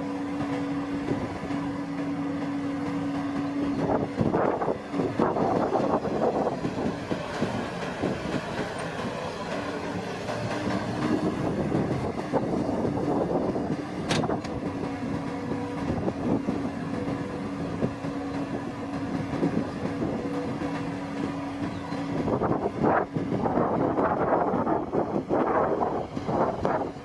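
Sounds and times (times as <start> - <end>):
harvesting machine engine humming: 0.0 - 27.0.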